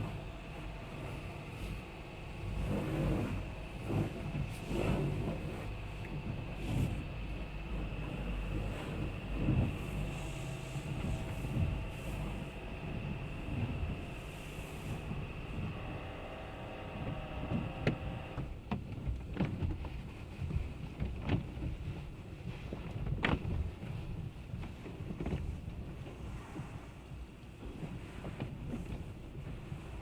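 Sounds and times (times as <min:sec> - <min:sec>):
muffled rumble of water and machinery: 0:00.0 - 0:30.0.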